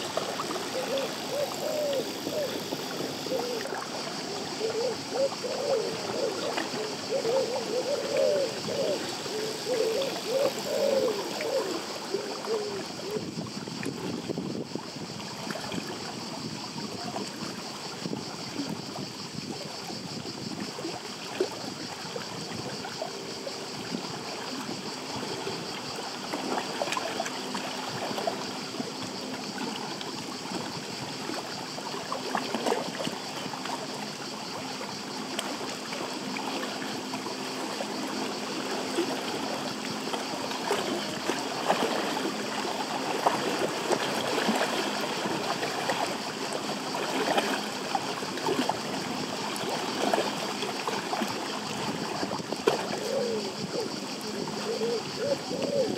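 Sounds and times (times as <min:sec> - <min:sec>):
small waves lapping: 0:00.0 - 0:55.9.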